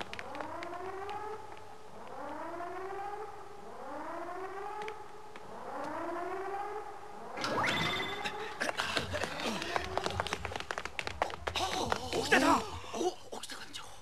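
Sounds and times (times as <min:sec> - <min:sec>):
whooping alarm siren: 0:00.0 - 0:12.7.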